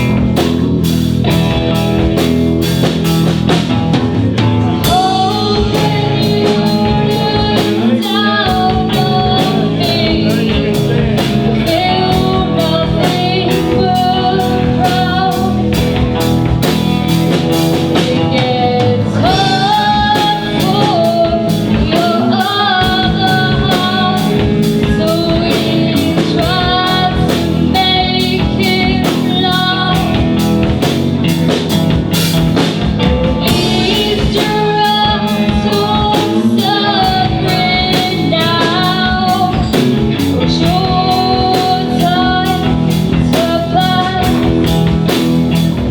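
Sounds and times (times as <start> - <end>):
drum kit beat: 0.0 - 45.9
guitar: 0.0 - 45.9
person singing: 4.3 - 31.5, 33.0 - 45.9.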